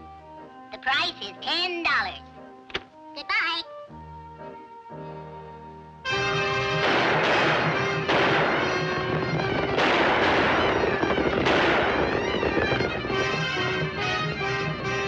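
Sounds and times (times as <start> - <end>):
orchestral music: 0.0 - 15.0.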